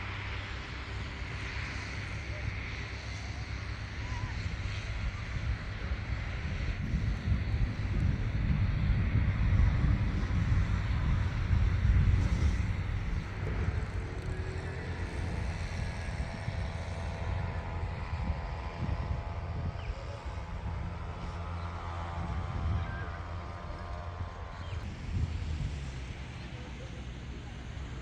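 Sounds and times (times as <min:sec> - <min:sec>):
wind buffeting microphone: 0:03.4 - 0:28.0.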